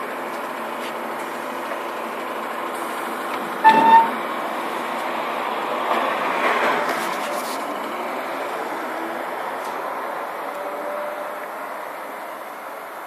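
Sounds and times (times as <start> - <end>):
trolleybus running noise: 0.0 - 13.0.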